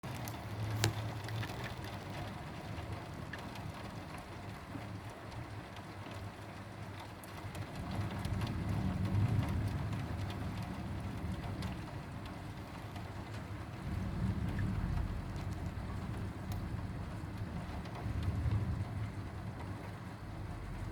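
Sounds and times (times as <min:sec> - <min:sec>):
heavy rain falling: 0:00.0 - 0:20.9
raindrops clicking sharply: 0:00.1 - 0:06.3, 0:07.2 - 0:20.9.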